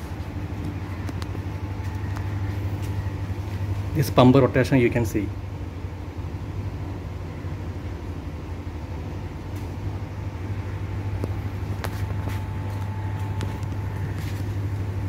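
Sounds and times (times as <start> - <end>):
faint whine: 0.0 - 15.0.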